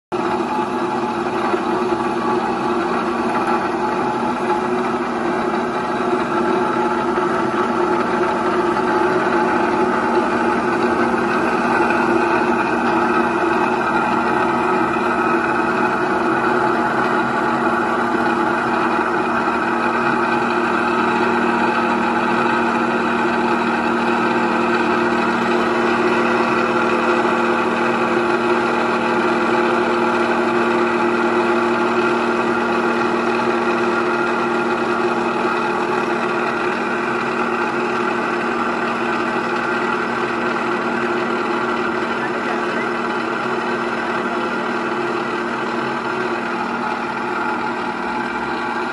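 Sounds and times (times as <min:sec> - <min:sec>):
grinding wheel whine and hiss: 0:00.2 - 0:48.9.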